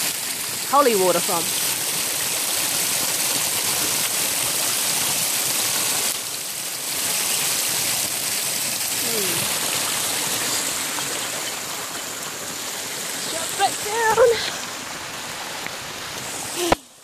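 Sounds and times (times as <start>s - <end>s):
water splashing over rock: 0.0s - 17.0s.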